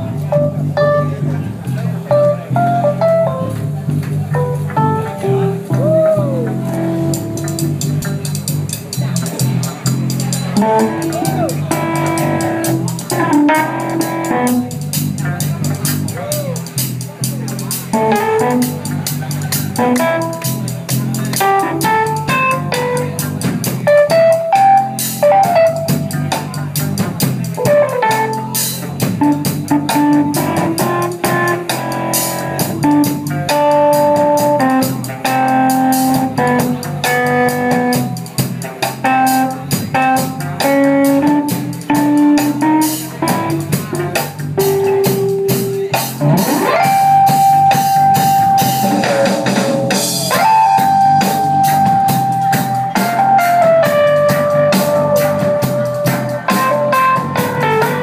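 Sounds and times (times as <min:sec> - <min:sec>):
drum kit beat: 0:00.0 - 0:58.0
electric guitar: 0:00.0 - 0:58.0
keyboard: 0:00.0 - 0:58.0.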